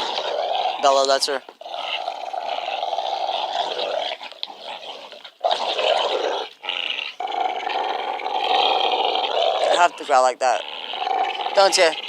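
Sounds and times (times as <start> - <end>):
dog play-growling: 0.0 - 12.0.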